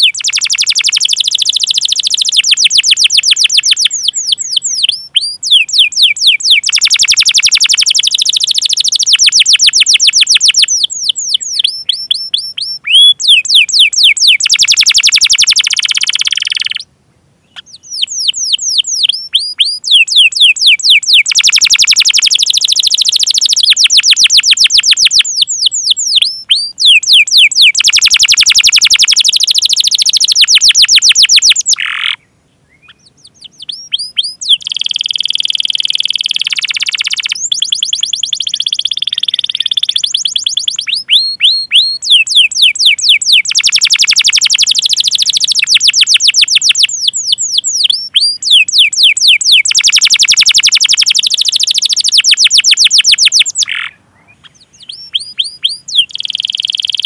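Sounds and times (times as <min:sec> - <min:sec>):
canary singing chirps and trills: 0:00.0 - 0:57.0.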